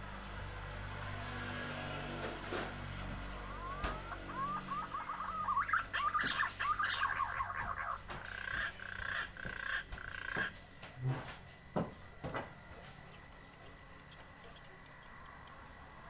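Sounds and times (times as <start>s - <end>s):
aviary birds chirping: 0.0s - 1.2s, 2.0s - 16.0s.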